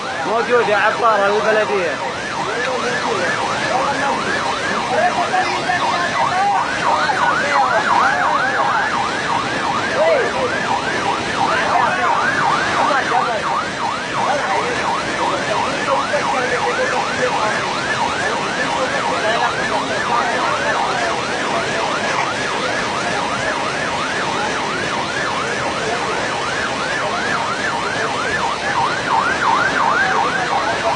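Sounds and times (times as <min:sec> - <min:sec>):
floodwater rushing: 0:00.0 - 0:30.9
siren yelping: 0:00.0 - 0:30.9.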